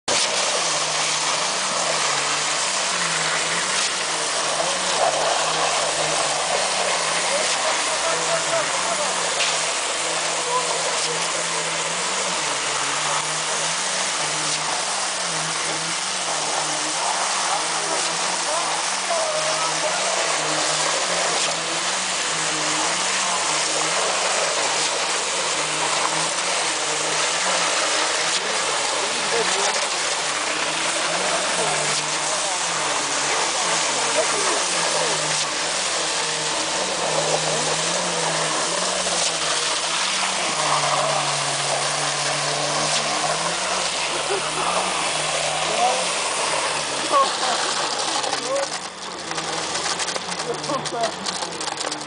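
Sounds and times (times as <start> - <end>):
broad rushing noise: 0.1 - 52.0
concrete pump engine hum: 0.1 - 52.0
hiss of pumping concrete: 0.1 - 52.0.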